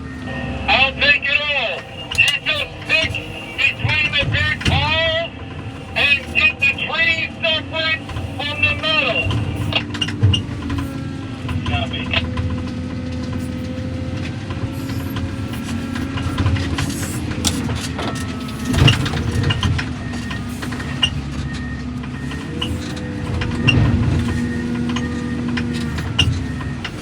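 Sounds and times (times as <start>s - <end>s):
diesel heavy equipment running: 0.0s - 27.0s.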